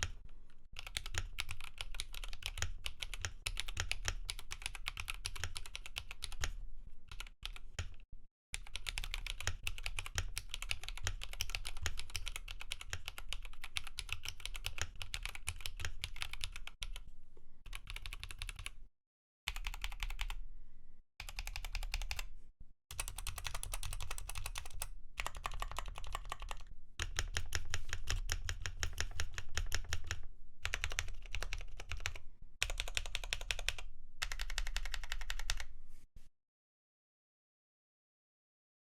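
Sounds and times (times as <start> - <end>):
typing on mechanical keyboard: 0.8 - 8.0, 8.6 - 17.0, 17.7 - 18.8, 19.5 - 20.4, 21.2 - 22.2, 22.9 - 35.7.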